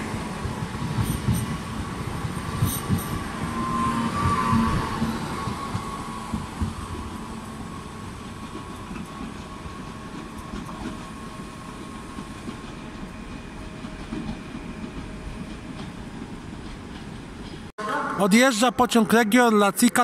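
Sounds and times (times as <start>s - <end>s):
train wheels rumbling on rails: 0.0s - 17.7s.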